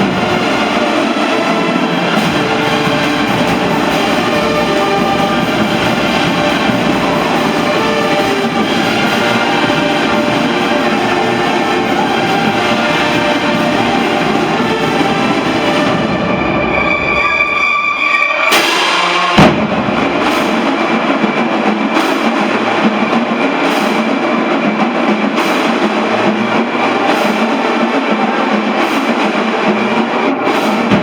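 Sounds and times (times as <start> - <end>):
bass and snare drums beat: 0.0 - 16.0, 18.5 - 31.0
cymbal crashes: 0.0 - 31.0
marching band chord: 0.0 - 31.0.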